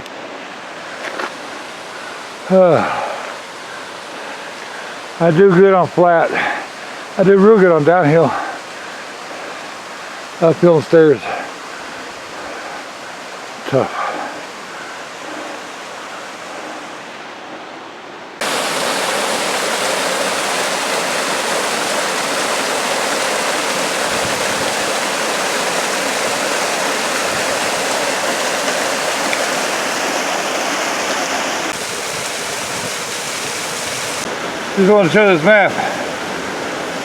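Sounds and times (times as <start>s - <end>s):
waterfall roar: 0.0s - 37.0s.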